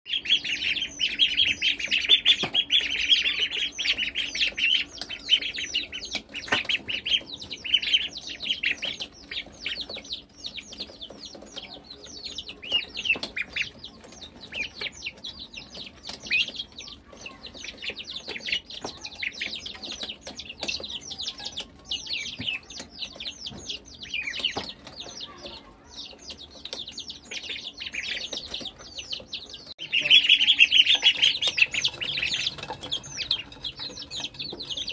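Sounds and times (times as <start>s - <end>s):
ducklings and chicks peeping: 0.1s - 34.9s.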